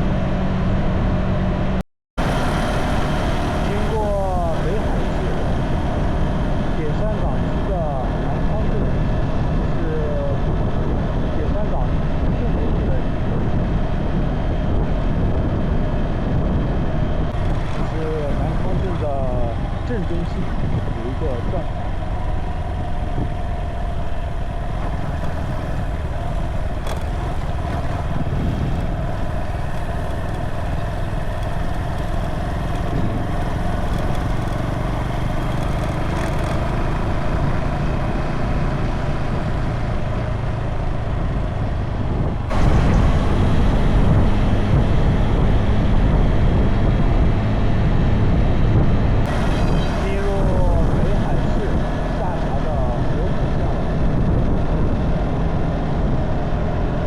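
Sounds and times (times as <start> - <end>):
motorcycle engine at speed: 0.0 - 57.0
road and wind noise: 0.0 - 57.0.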